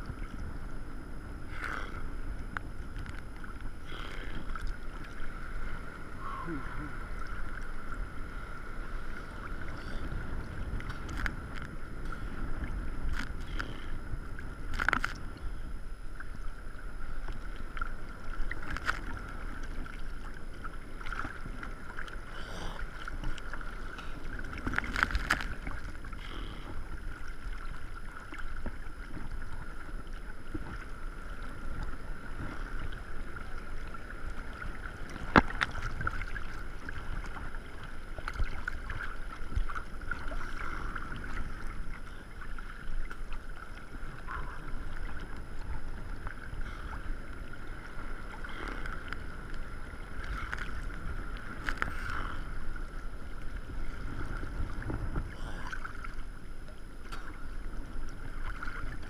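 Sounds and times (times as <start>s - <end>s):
wind on microphone: 0.0s - 27.7s, 28.5s - 56.1s
water sloshing and lapping: 0.0s - 59.0s.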